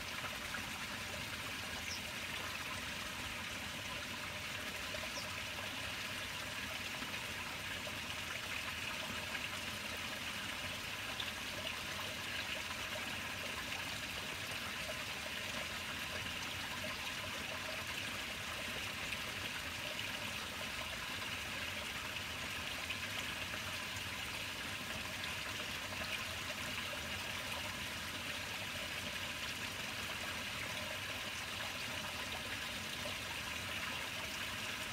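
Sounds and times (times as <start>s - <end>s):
running water trickling: 0.0s - 34.9s.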